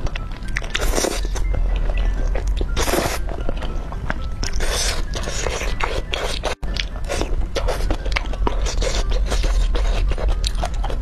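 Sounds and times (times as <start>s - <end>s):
low hum: 0.0s - 11.0s
wet chewing and mouth smacks: 0.0s - 11.0s.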